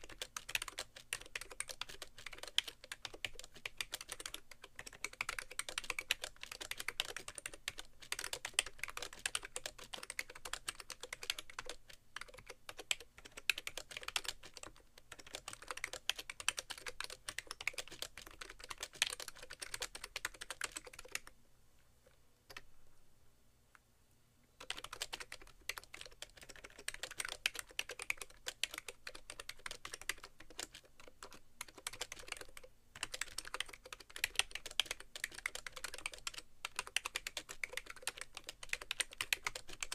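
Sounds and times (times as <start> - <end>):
fast keyboard typing: 0.0 - 21.3, 24.6 - 39.9.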